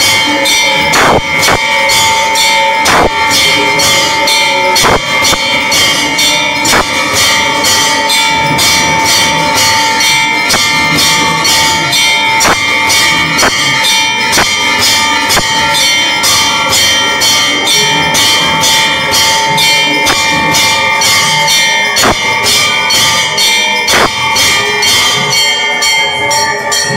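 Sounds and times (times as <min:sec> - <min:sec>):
temple bells ringing rapidly: 0:00.0 - 0:26.9.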